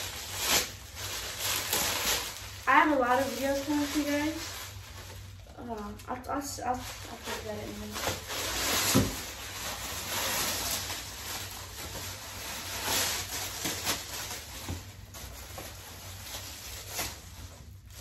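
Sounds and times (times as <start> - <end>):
plastic and tissue paper rustling: 0.0 - 18.0.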